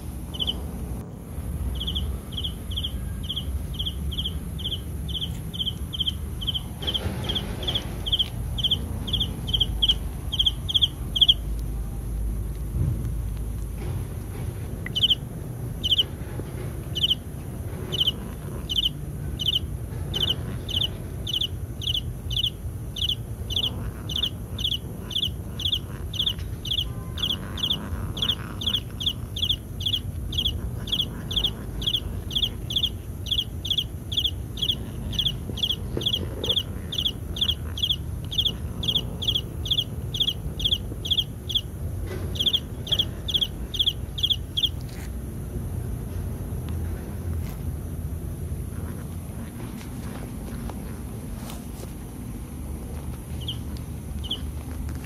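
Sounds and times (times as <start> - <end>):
low steady rumble: 0.0 - 55.0.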